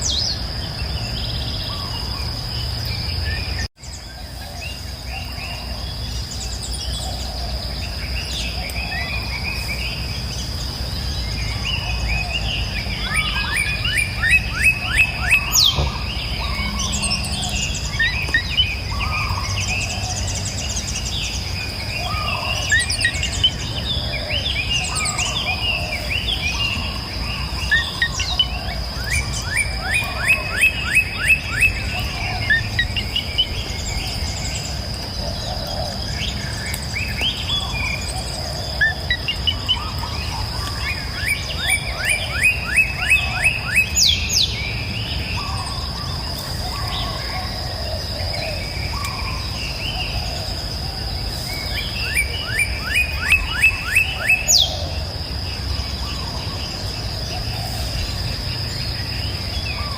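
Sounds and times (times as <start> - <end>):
songbirds singing and calling: 0.0 - 59.9.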